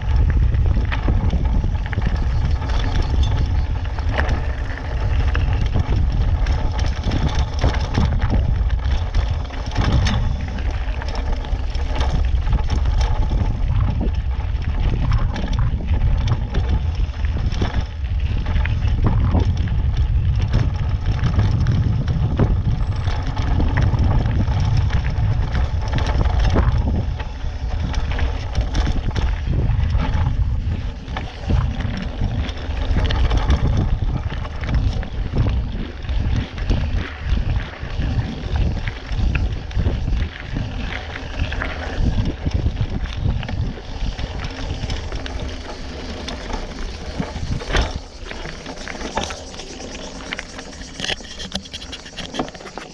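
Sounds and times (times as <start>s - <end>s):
bike rattling over stones: 0.0s - 52.9s
wind buffeting microphone: 0.0s - 52.9s.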